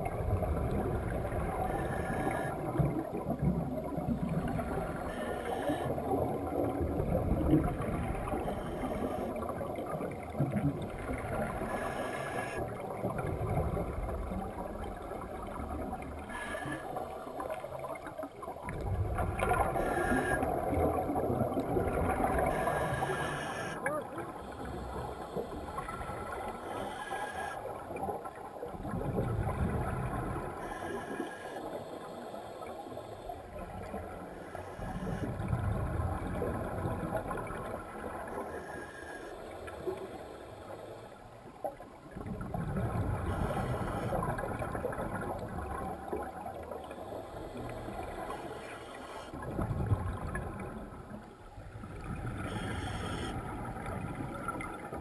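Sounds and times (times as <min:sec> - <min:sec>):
steady underwater hiss: 0:00.0 - 0:55.0
underwater exhaled air bubbling: 0:00.0 - 0:55.0.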